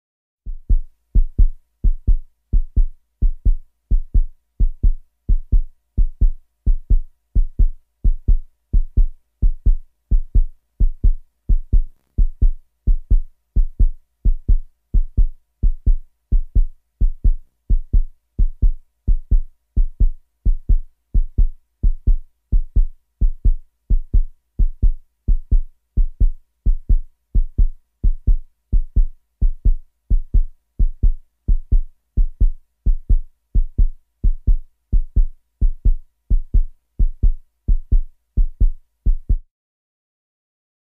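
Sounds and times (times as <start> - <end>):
fast heartbeat thumps: 0.5 - 39.5.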